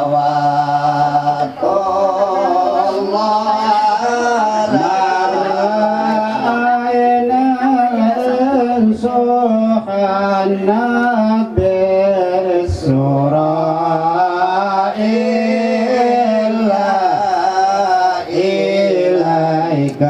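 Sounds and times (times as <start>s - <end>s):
person singing chant-like melody: 0.0s - 20.0s.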